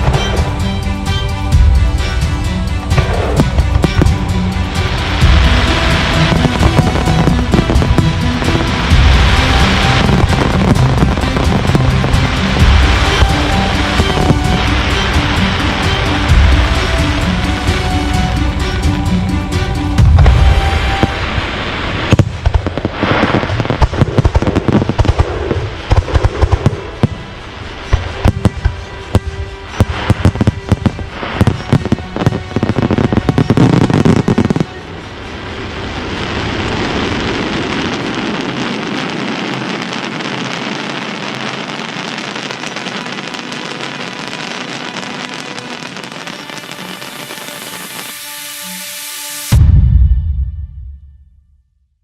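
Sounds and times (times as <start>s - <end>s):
fireworks bangs and crackling: 0.0s - 48.6s
steady rushing noise: 0.0s - 49.8s.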